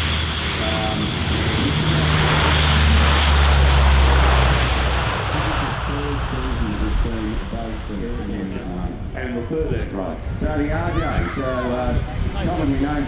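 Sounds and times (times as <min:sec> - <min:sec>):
turboprop aircraft passing: 0:00.0 - 0:13.0.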